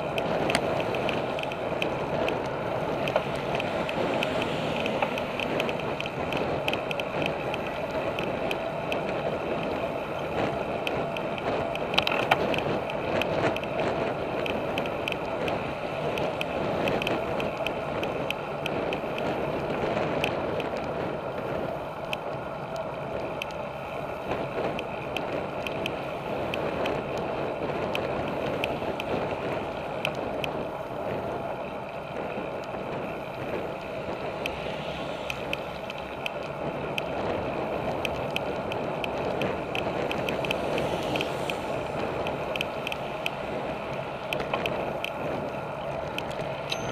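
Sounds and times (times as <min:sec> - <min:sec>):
bicycle tyre and road noise: 0:00.0 - 0:46.9
wind: 0:00.0 - 0:46.9.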